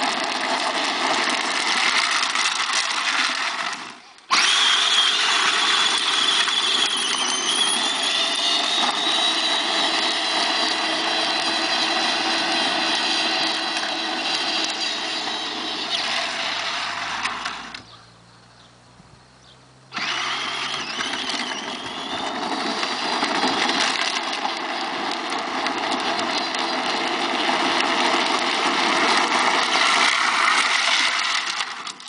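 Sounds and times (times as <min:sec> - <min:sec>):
plastic wheels rattling: 0:00.0 - 0:18.0, 0:19.9 - 0:32.0
ride-on toy car motor whining: 0:00.0 - 0:18.1, 0:19.9 - 0:32.0.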